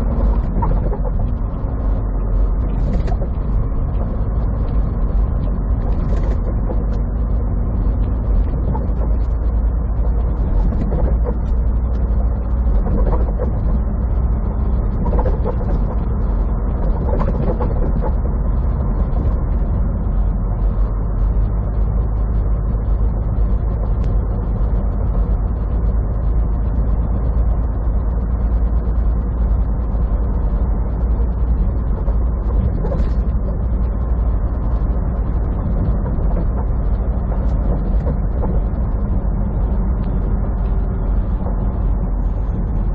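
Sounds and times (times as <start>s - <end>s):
diesel engine rumble: 0.0s - 42.9s.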